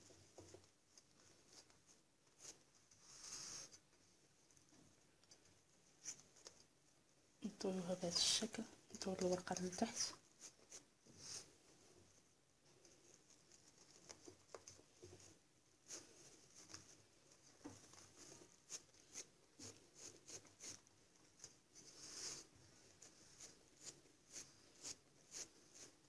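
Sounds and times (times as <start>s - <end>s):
pastry sheets rustling and crackling: 0.0s - 26.0s.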